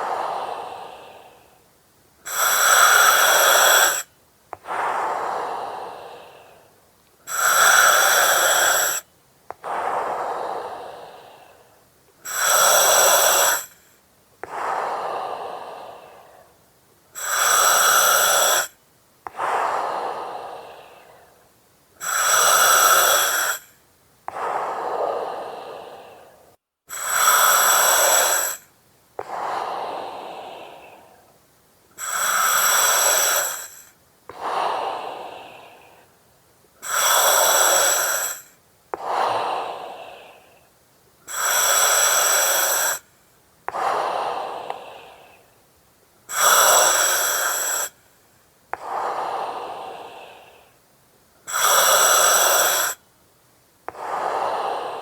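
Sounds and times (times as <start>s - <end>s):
breathing through oxygen mask: 0.0s - 1.6s, 2.2s - 9.0s, 9.6s - 16.6s, 17.2s - 21.4s, 22.0s - 31.3s, 32.0s - 36.2s, 36.8s - 40.7s, 41.3s - 43.1s, 43.7s - 45.5s, 46.3s - 48.0s, 48.8s - 50.8s, 51.5s - 53.0s, 53.9s - 55.0s.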